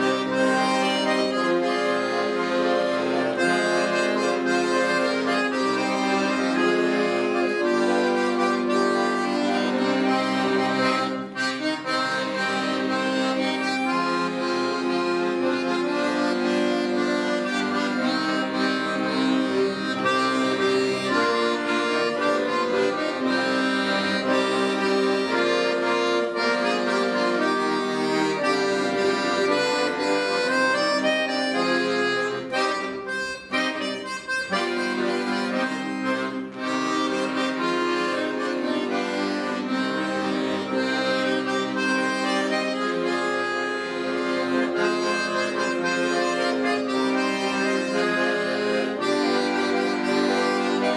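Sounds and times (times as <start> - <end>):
accordion ensemble playing: 0.0 - 50.9.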